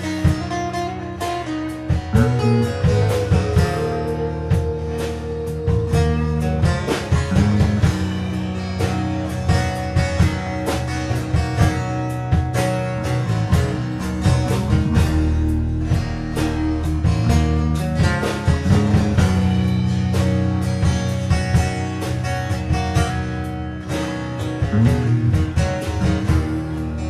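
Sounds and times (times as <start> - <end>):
acoustic guitars strumming: 0.0 - 27.0
electric bass guitar: 0.0 - 27.0.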